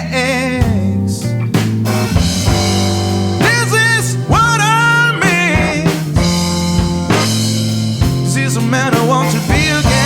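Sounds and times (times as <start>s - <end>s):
bending lead guitar notes: 0.0s - 10.0s
rock band playing: 0.0s - 10.0s.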